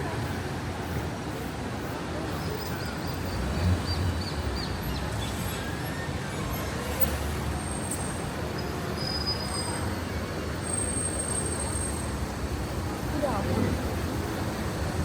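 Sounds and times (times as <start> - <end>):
low traffic rumble: 0.0 - 15.0
street noise: 0.0 - 15.0.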